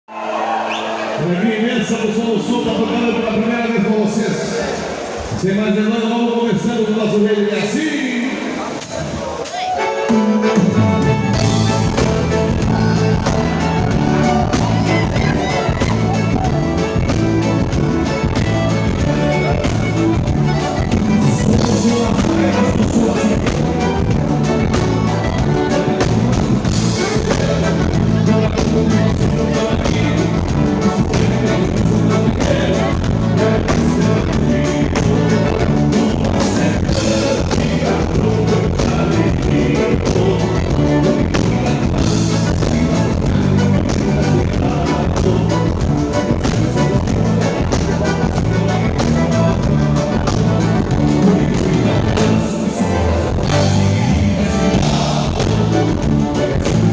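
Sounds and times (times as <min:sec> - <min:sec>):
live band playing: 0:08.2 - 0:56.9
person singing: 0:09.5 - 0:56.9
steady drum beat: 0:10.2 - 0:56.9
bass line: 0:10.5 - 0:56.9.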